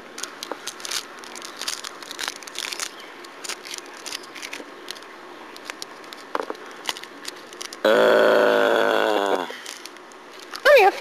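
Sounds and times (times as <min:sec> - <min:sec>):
hands crinkling stuffed toy: 0:00.0 - 0:07.9, 0:09.5 - 0:11.0.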